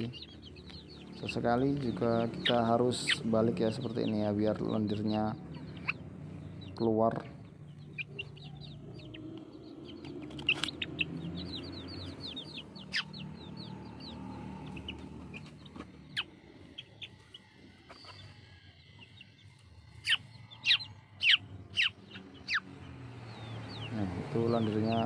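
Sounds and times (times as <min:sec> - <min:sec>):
chickens clucking and chirping: 0:00.0 - 0:25.0.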